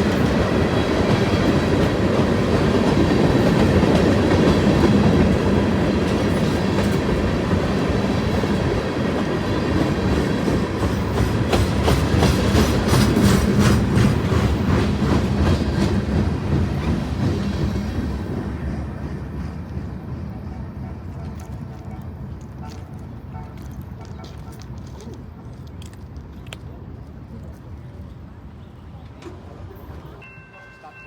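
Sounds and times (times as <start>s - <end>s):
train wheels rumbling: 0.0s - 26.1s.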